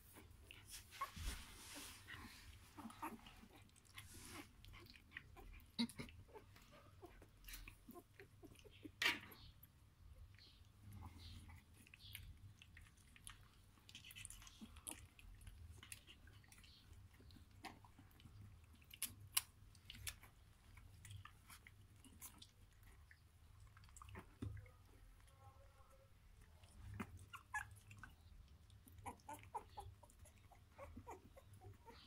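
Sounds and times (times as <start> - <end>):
puppies suckling wet smacks: 0.0 - 25.3, 26.1 - 32.0.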